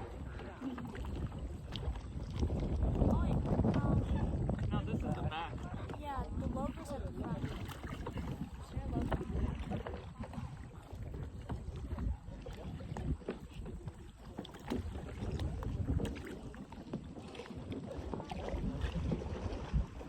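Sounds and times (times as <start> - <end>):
water splashing around kayaks: 0.0 - 20.0
wind on microphone: 0.0 - 20.0.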